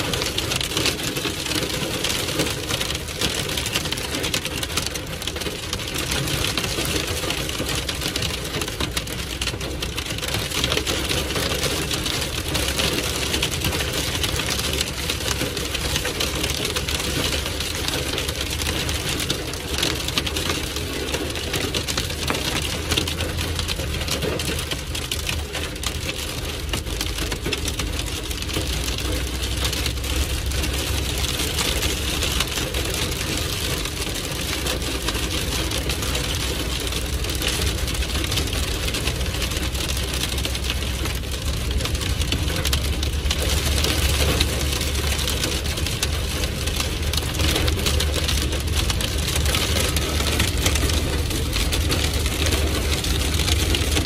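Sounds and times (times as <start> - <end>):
car engine and tyres rumbling: 0.0 - 54.0
rain and hail on car roof: 0.0 - 54.0.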